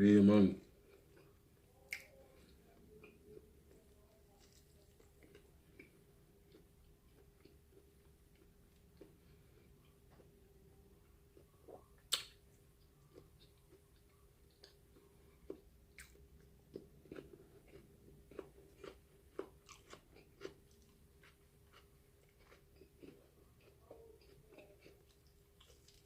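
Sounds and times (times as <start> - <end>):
person chewing food: 0.6 - 26.0.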